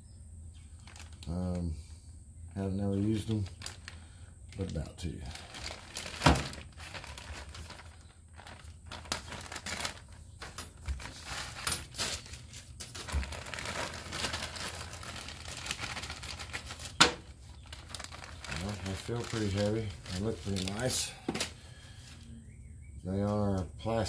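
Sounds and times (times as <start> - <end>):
plastic bag crinkling: 0.8 - 1.4, 3.0 - 22.2.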